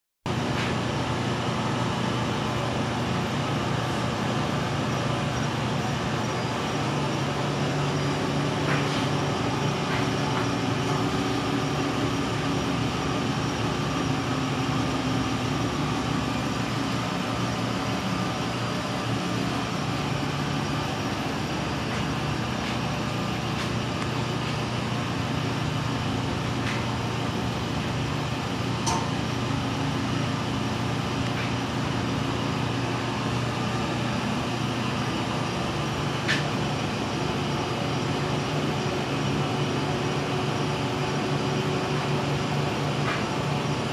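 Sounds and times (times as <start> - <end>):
car engine idling: 0.8 - 43.9.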